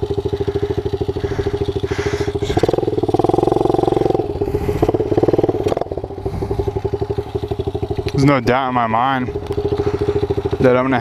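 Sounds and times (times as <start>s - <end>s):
motorbike engine idling and revving: 0.0s - 11.0s.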